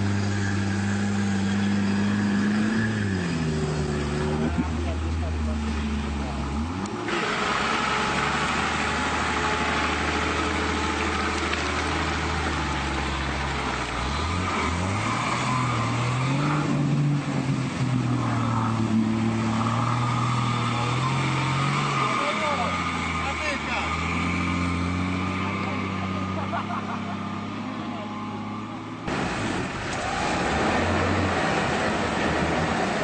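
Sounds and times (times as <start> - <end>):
off-road engine revving: 0.0 - 33.0
wheels churning mud: 0.0 - 33.0.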